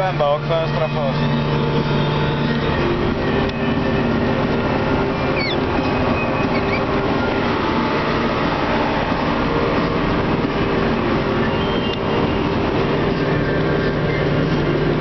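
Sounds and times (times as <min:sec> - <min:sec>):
road and drivetrain noise: 0:00.0 - 0:15.0
tractor diesel engine running: 0:00.0 - 0:15.0.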